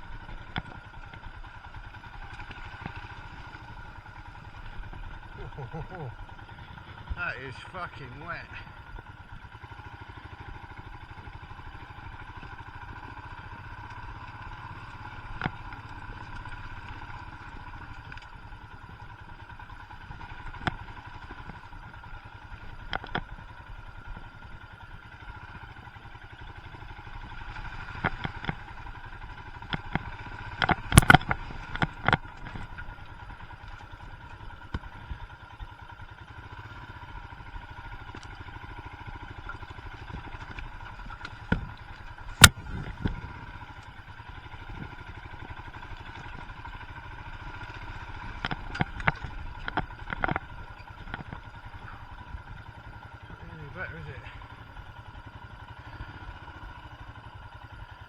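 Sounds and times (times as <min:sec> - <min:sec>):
engine knocks and clatters: 0:00.0 - 0:58.0
motorcycle engine running: 0:00.0 - 0:58.0.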